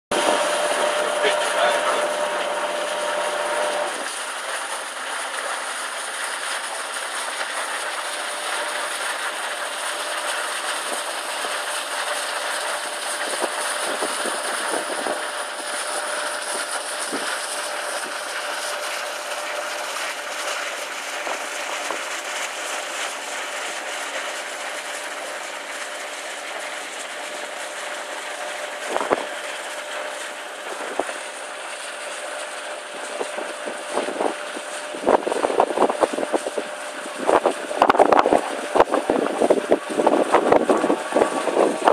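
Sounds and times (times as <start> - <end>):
boat engine running: 0.1 - 41.9
bow wave splashing: 0.1 - 41.9.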